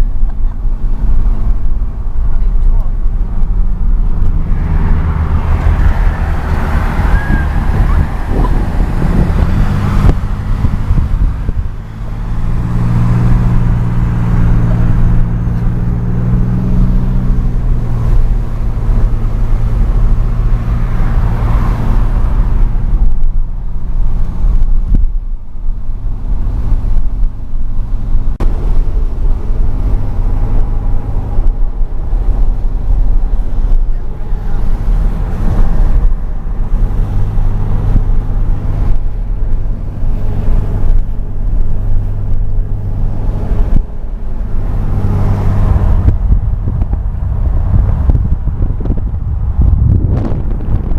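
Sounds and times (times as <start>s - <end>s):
road noise: 0.0s - 50.9s
turbocharged car engine: 0.0s - 50.9s.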